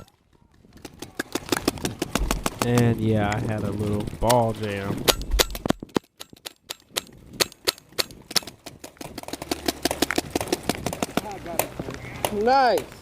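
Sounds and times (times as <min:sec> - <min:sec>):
paintball markers popping: 0:00.0 - 0:13.0.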